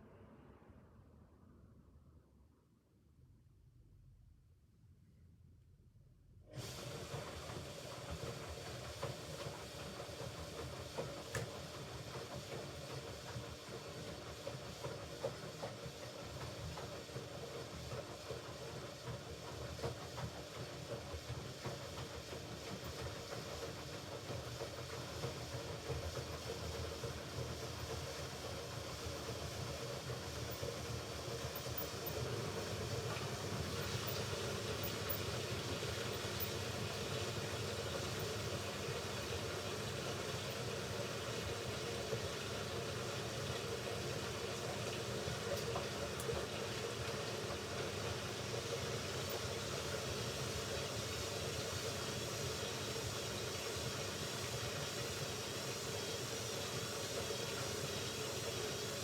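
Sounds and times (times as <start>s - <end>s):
washing machine running: 6.5s - 59.0s.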